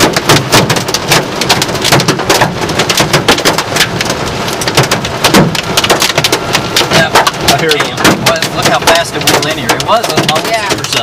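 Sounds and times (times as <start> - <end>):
hail pelting car body: 0.0 - 11.0
heavy rain hiss: 0.0 - 11.0.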